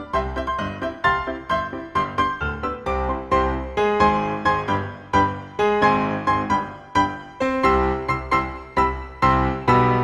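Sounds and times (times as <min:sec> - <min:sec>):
piano melody single notes: 0:00.0 - 0:10.0.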